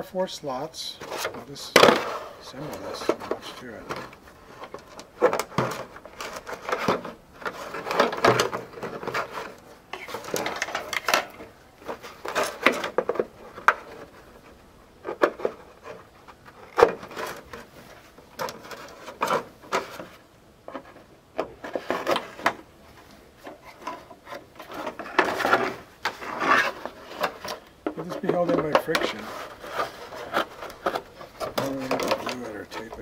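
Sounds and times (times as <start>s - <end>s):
plastic rubbing and scraping: 1.0s - 33.0s.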